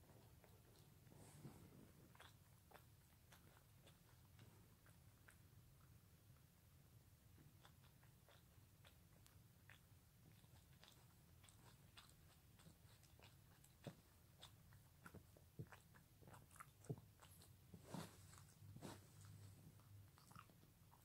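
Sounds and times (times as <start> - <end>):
dog licking paw: 0.1 - 5.9, 7.4 - 21.0.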